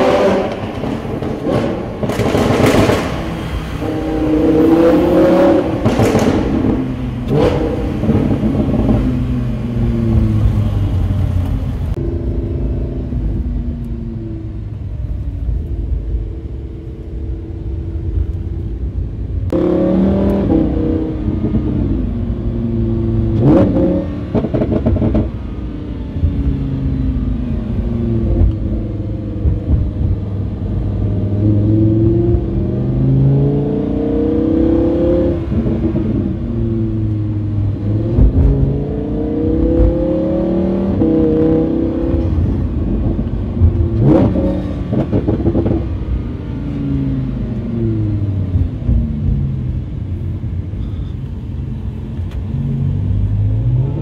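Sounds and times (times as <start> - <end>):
car engine revving: 0.0 - 14.7, 19.5 - 50.3.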